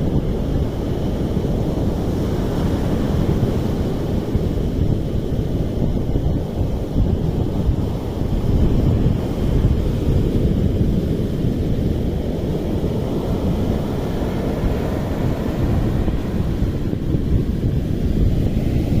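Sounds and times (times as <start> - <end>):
sea surf rushing: 0.0 - 19.0
wind on microphone: 0.0 - 19.0.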